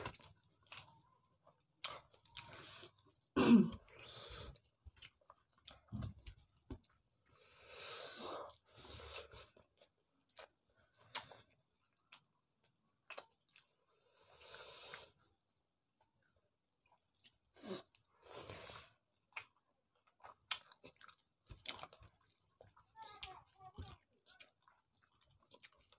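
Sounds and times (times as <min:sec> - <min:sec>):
chewing and wet mouth sounds: 0:00.0 - 0:25.9.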